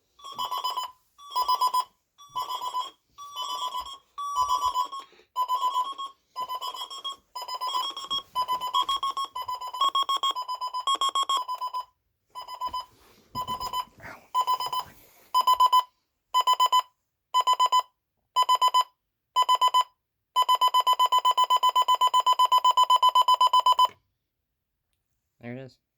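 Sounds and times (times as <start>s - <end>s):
digital alarm clocks beeping: 0.2s - 24.0s.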